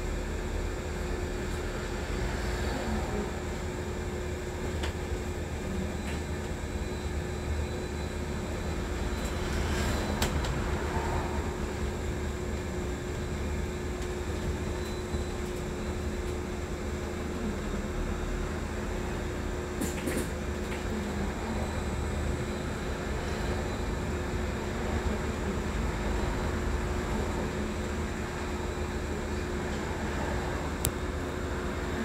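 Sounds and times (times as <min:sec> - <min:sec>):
bus road rumble and hum: 0:00.0 - 0:32.0.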